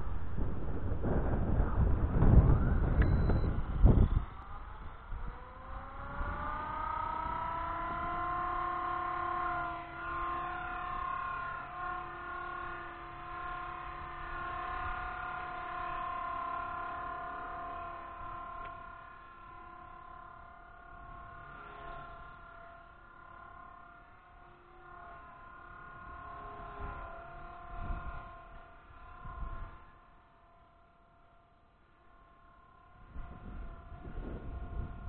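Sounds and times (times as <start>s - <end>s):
helicopter motor and rotor whine: 0.0s - 35.0s.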